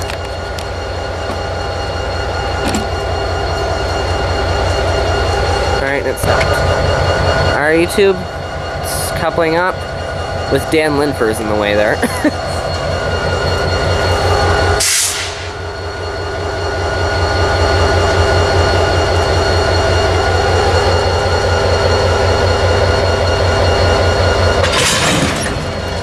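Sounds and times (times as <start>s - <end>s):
diesel locomotive droning: 0.0s - 26.0s.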